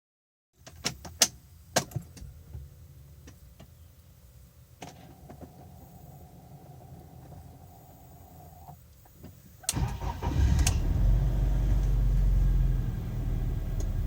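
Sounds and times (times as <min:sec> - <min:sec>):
faint steady hum: 0:00.6 - 0:14.0.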